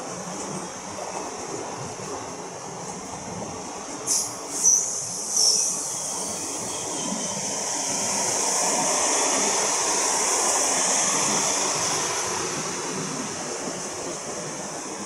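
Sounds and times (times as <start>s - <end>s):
train coaches rolling past: 0.0s - 15.0s.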